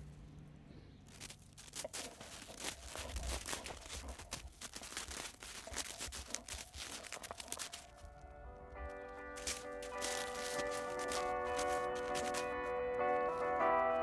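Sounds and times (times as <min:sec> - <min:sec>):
faint music: 0:00.0 - 0:14.0
dog paws digging in snow: 0:01.1 - 0:08.1, 0:09.3 - 0:13.6.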